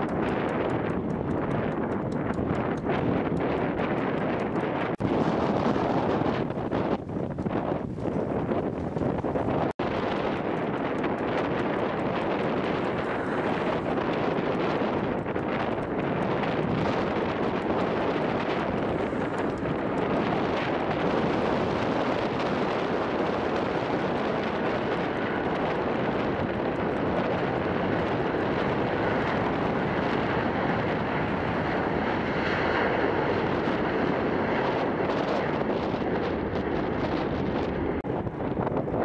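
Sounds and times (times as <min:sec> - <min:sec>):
jet engines roaring: 0:00.0 - 0:39.0
wind buffeting microphone: 0:00.0 - 0:39.0.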